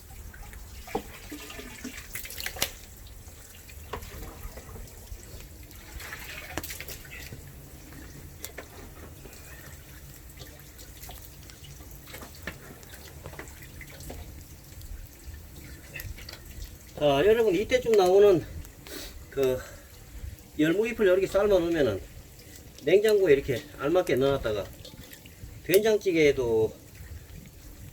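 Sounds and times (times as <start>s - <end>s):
water trickling in a sink: 0.0s - 27.9s.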